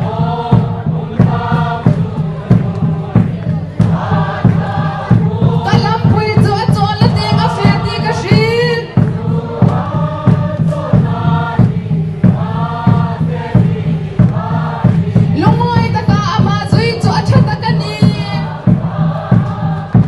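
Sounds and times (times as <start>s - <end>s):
group of voices singing: 0.0s - 20.0s
instrumental accompaniment with beat: 0.0s - 20.0s.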